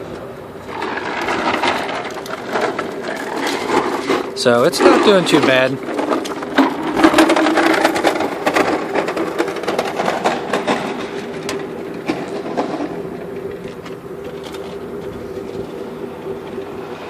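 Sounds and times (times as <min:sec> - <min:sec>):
furnace crackling and popping: 0:00.2 - 0:16.8.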